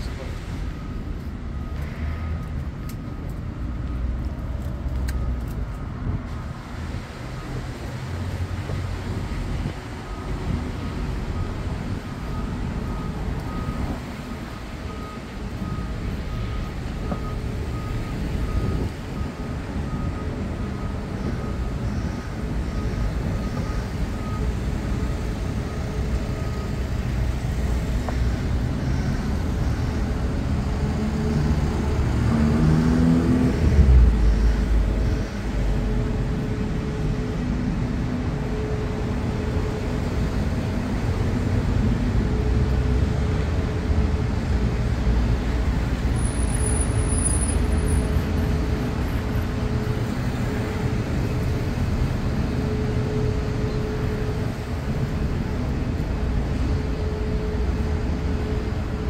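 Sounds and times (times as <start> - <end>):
street traffic passing: 0.0 - 59.0.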